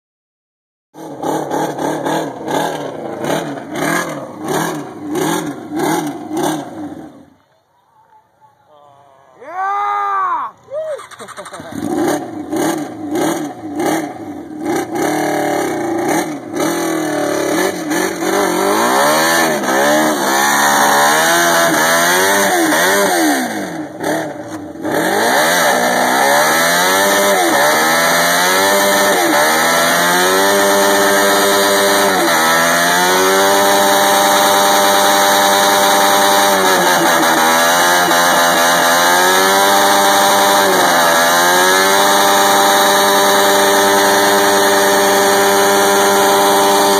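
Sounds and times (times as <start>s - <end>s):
motorcycle engine revving: 1.0s - 7.5s, 11.0s - 46.9s.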